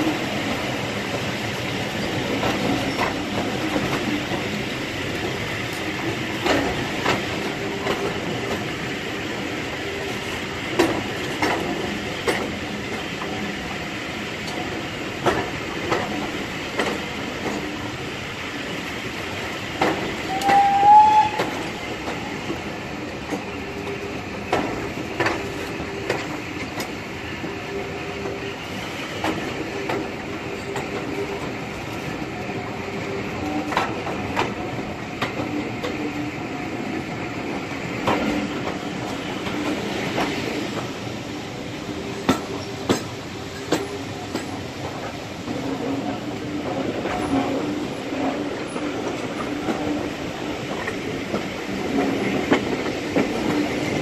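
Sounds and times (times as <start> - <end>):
train wheels clicking over rail joints: 0.0 - 13.7, 14.4 - 18.8, 19.4 - 32.3, 33.0 - 54.0
train running noise: 0.0 - 54.0.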